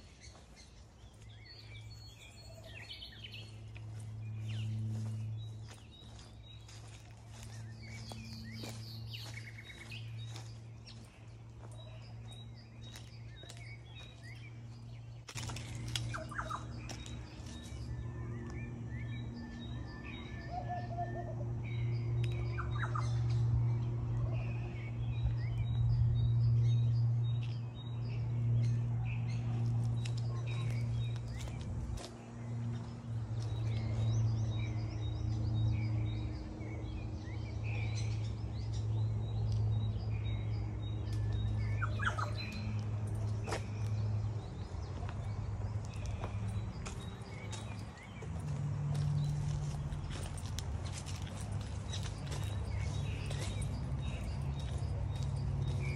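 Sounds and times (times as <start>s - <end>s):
birds chirping and calling: 0.0s - 55.9s
low machine hum: 0.0s - 55.9s.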